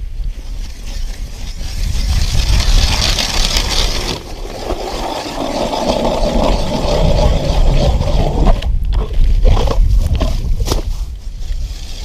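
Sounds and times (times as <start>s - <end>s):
ice auger grinding into ice: 0.5s - 12.0s.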